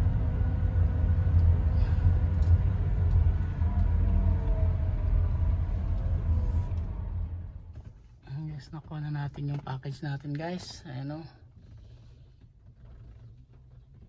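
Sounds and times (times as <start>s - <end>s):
car interior low rumble: 0.0s - 14.0s.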